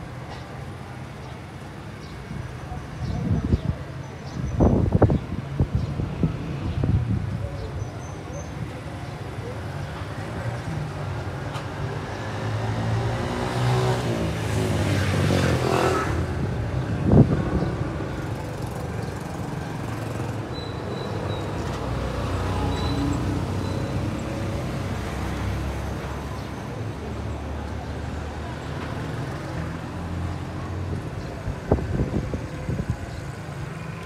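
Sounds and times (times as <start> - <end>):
steady road noise: 0.0 - 34.0.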